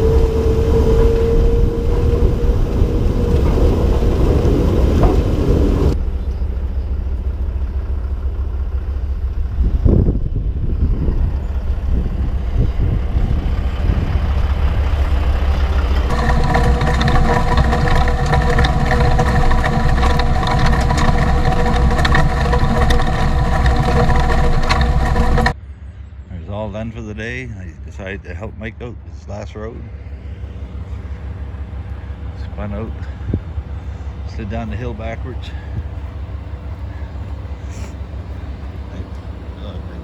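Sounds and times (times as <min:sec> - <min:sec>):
diesel truck engine rumbling: 0:00.0 - 0:40.0.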